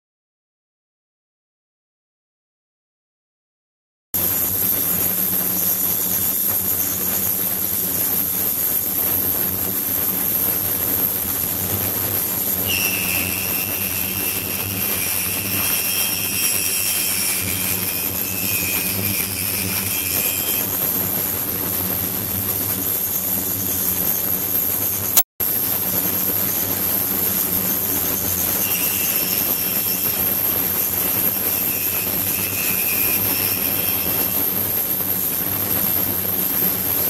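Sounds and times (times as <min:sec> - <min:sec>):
high whine: 0:04.2 - 0:36.7.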